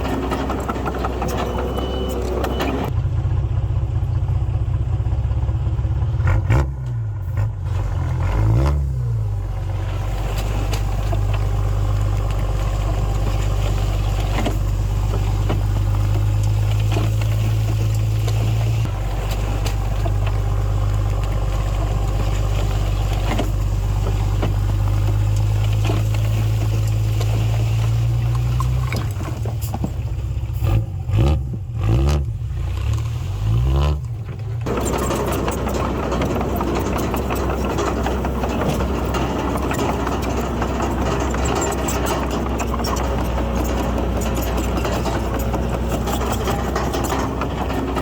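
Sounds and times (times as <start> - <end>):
diesel engine revving: 0.0 - 48.0.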